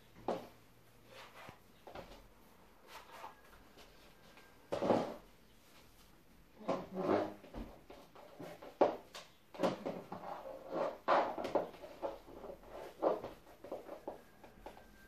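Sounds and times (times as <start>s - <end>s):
soft rustling: 0.0s - 15.0s.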